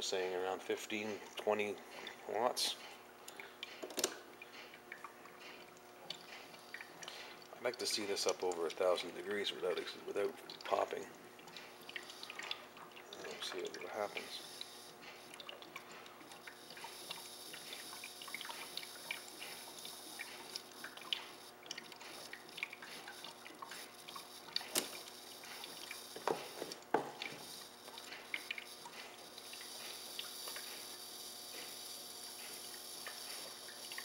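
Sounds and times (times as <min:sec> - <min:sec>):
water bubbling and dripping: 0:00.9 - 0:34.0.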